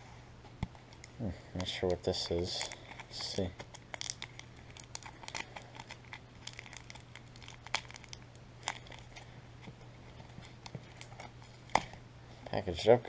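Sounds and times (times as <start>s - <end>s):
steady low hum: 0.0s - 13.0s
paper crinkling and tearing: 0.8s - 11.8s.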